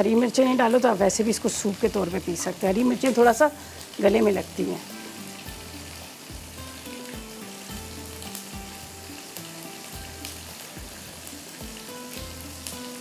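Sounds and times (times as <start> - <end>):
oil sizzling in a pan: 0.0 - 13.0
soft background music: 0.0 - 13.0.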